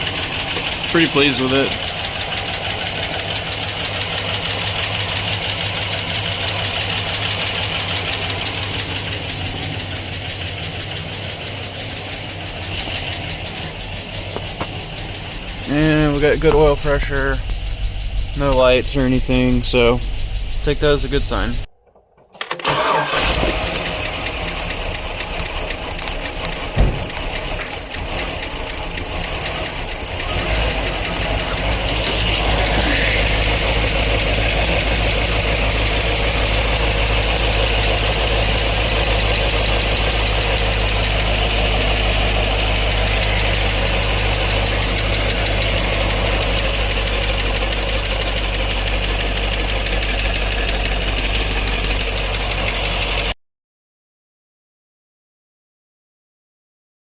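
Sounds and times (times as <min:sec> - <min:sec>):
faint engine ticking: 0:00.0 - 0:21.7, 0:22.6 - 0:53.4
car engine idling: 0:00.0 - 0:53.4.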